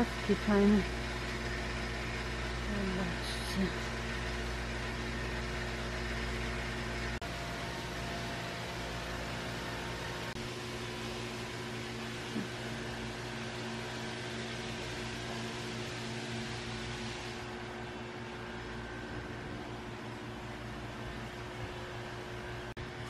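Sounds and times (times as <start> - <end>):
ventilation fan drone: 0.0 - 23.0.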